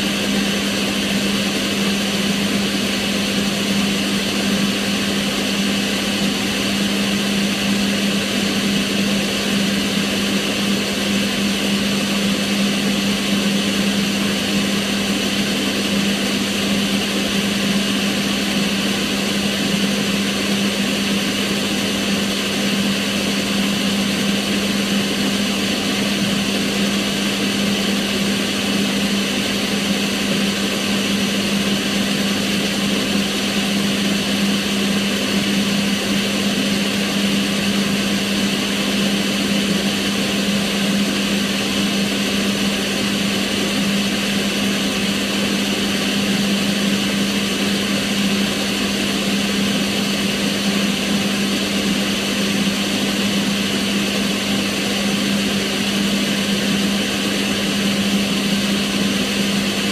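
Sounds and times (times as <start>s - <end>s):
range hood fan rushing air: 0.0s - 59.9s.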